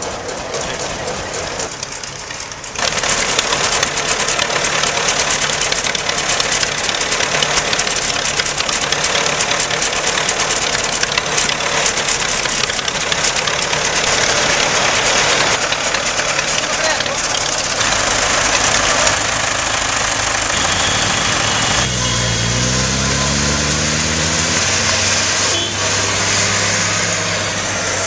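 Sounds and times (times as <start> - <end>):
tractor engines clattering: 0.0 - 28.0.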